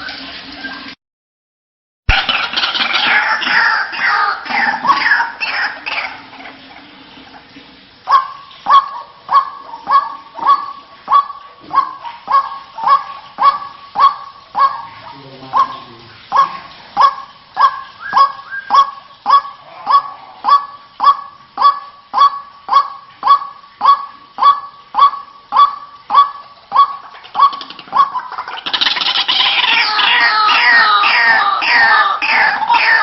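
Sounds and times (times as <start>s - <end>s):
waterhen call notes: 2.1s - 33.0s.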